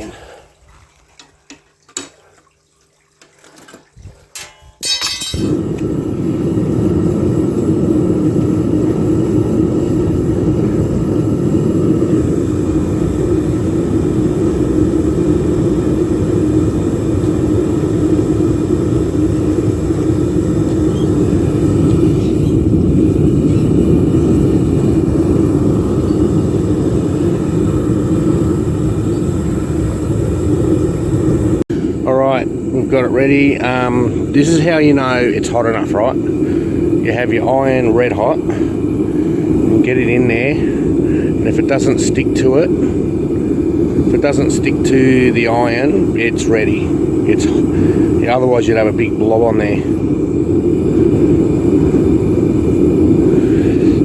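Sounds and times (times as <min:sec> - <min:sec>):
furnace burner rushing: 0:00.0 - 0:02.4, 0:03.2 - 0:54.0.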